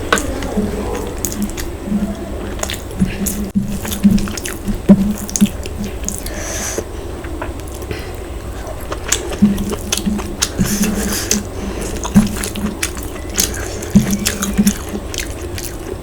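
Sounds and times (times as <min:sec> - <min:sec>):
chewing and eating sounds: 0:00.0 - 0:16.0.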